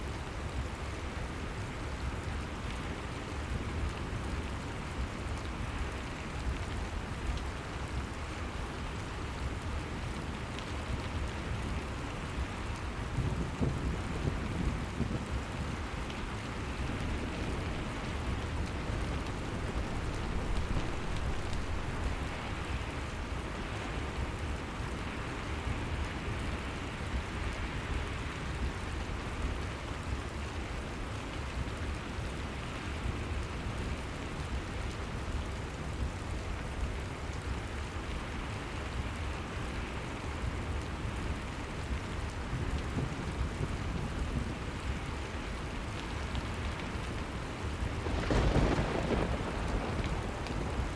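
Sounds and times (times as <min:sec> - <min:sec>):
steady rain hissing: 0:00.0 - 0:50.9.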